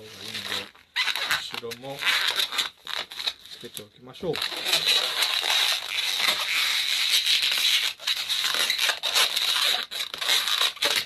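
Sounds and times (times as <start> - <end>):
balloon squeaking and rubbing: 0.0 - 11.0.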